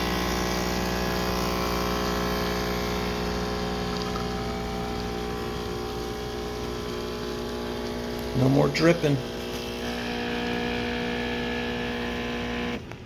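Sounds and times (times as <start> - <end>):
espresso machine pump buzzing: 0.0 - 12.9.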